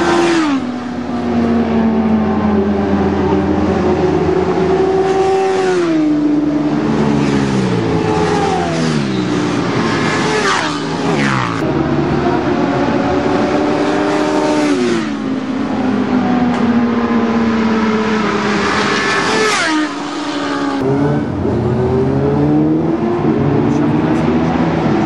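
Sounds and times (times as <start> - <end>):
motorcycles passing at high revs: 0.0 - 25.0.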